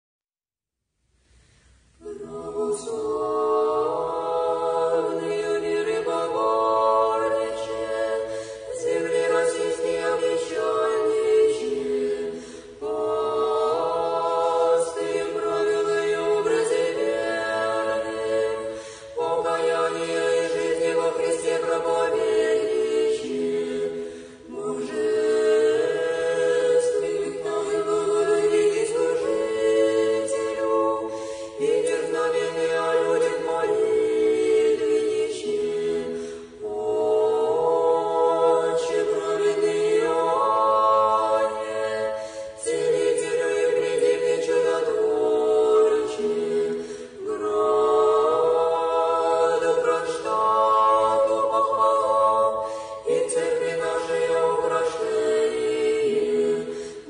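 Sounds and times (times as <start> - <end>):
unaccompanied choir chanting: 2.0 - 57.0.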